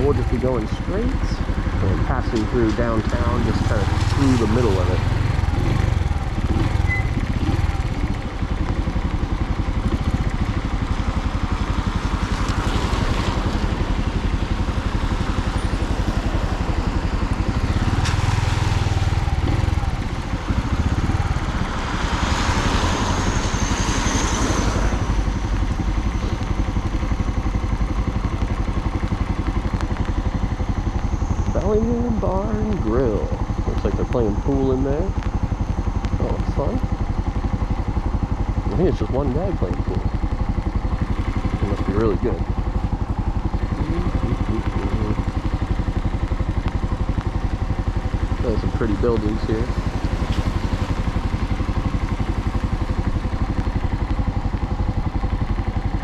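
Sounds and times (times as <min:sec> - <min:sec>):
wind and road noise: 0:00.0 - 0:31.6, 0:32.2 - 0:56.0
motorcycle engine running: 0:00.0 - 0:56.0.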